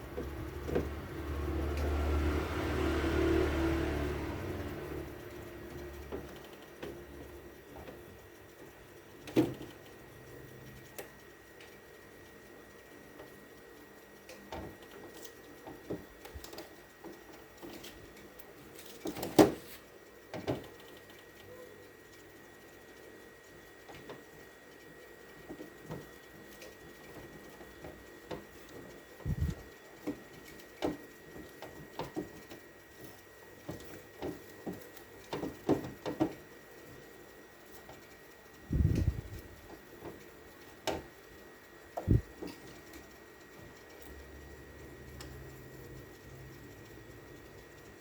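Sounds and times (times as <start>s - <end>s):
faint steady hum: 3.7s - 48.0s.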